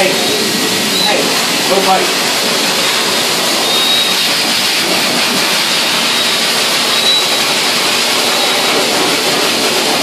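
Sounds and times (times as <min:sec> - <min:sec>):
blow dryer running: 0:00.0 - 0:10.0.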